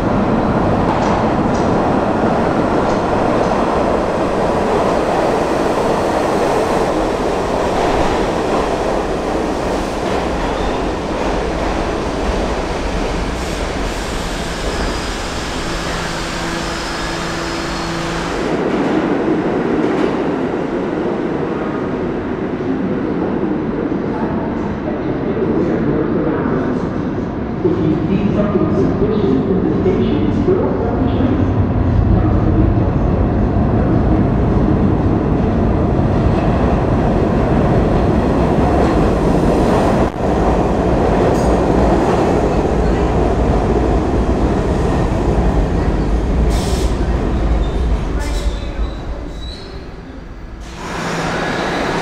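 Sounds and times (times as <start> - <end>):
distant subway train approaching: 0.0 - 52.0
subway train rumbling on rails: 0.0 - 52.0.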